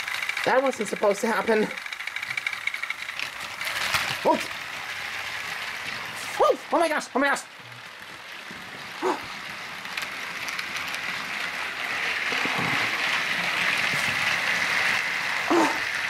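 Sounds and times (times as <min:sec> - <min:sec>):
toy train motors whirring: 0:00.0 - 0:16.0
wheels rattling on rails: 0:00.0 - 0:16.0.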